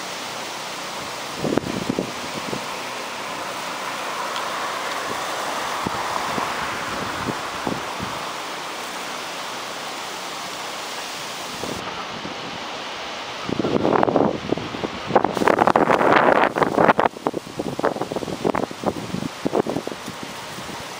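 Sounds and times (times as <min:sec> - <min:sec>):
floodwater rushing: 0:00.0 - 0:20.9.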